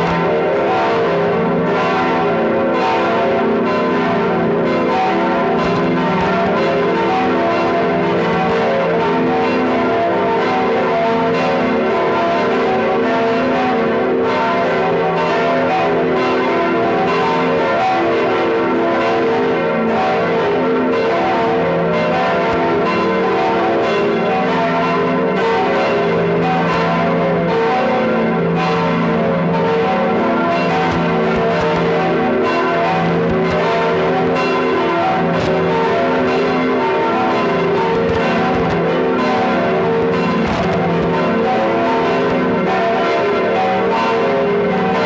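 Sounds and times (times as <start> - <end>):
church bells ringing: 0.0 - 45.0.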